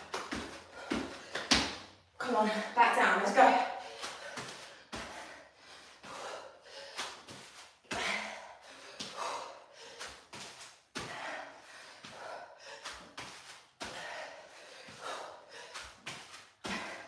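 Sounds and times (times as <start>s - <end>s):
feet and hands thumping floor: 0.0s - 2.0s, 3.8s - 5.4s, 6.0s - 11.4s, 12.0s - 17.0s
person breathing heavily and gasping: 0.3s - 1.6s, 3.7s - 17.0s.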